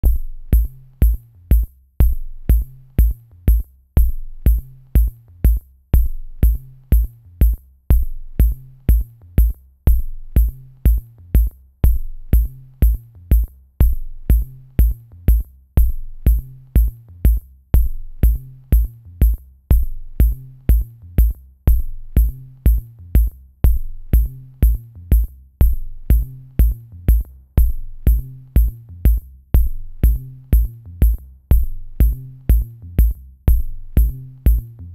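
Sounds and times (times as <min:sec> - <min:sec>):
electronic music with drum beat: 0:00.0 - 0:34.9.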